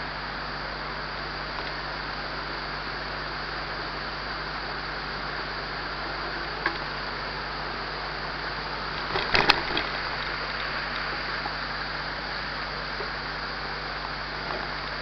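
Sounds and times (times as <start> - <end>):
mountain bike riding noise: 1.2 - 15.0.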